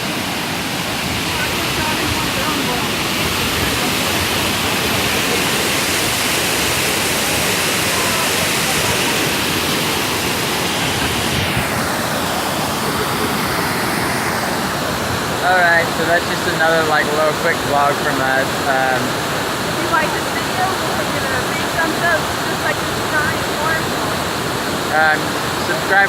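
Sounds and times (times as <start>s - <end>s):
large waterfall rushing: 0.0s - 26.0s.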